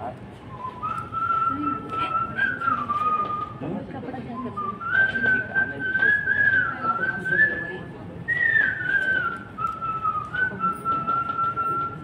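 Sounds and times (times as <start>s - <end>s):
man whistling a melody: 0.4s - 12.0s.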